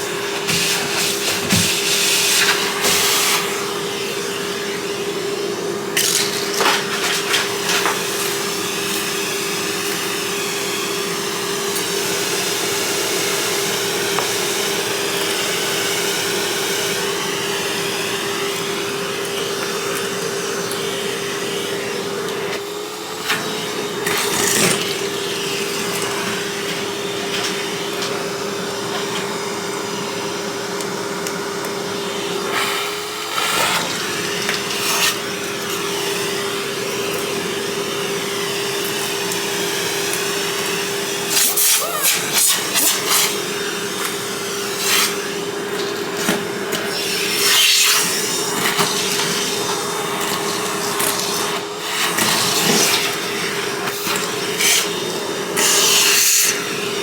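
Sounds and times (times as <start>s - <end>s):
vacuum cleaner humming: 0.0s - 57.0s.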